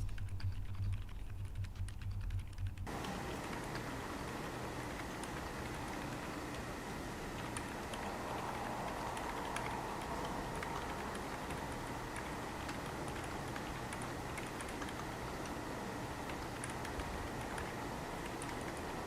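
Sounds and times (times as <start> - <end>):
microphone hiss: 2.5 - 19.0.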